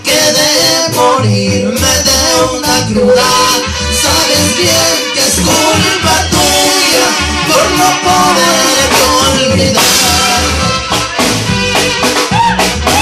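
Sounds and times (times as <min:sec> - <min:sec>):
held keyboard notes: 0:00.0 - 0:13.0
live band playing dance music: 0:00.0 - 0:13.0
steady drum beat: 0:01.8 - 0:13.0.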